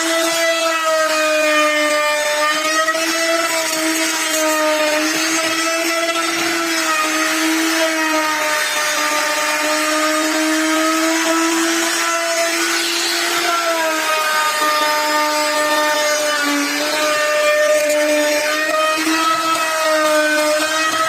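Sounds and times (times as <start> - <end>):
power tool motor hum: 0.0 - 21.0.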